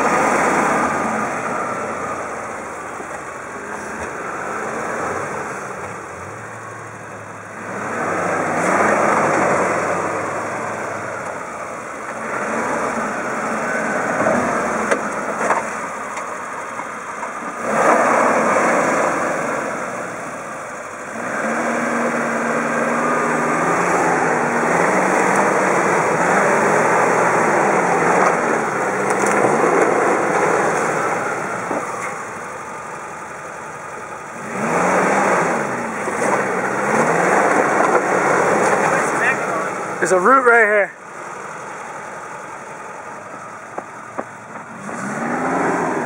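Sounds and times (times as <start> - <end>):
car engine revving under load: 0.0 - 46.0.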